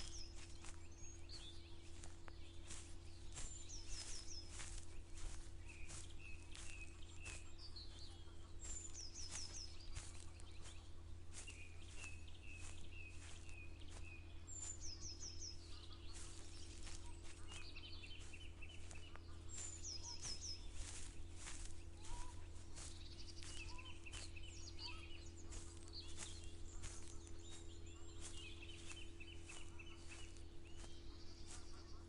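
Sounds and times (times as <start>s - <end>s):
lower bird chirps: 0.0s - 32.0s
soft footsteps: 0.0s - 32.0s.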